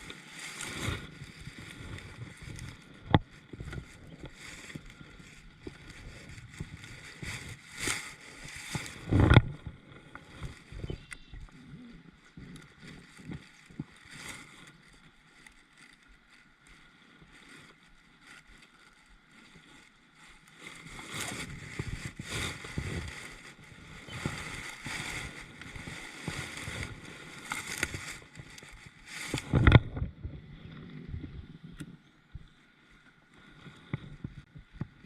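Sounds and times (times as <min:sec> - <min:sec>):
paddle strokes swishing through water: 0:00.0 - 0:35.0.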